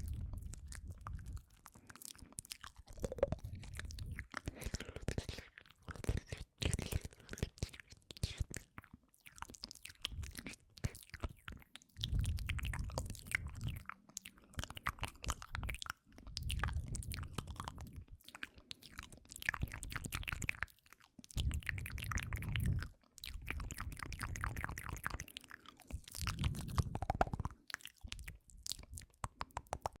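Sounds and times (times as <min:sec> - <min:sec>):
wet mouth clicks and smacks: 0:00.0 - 0:30.0.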